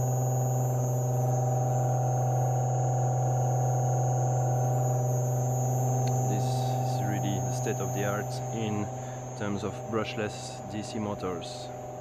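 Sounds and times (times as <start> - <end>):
electric motor hum: 0.0 - 12.0.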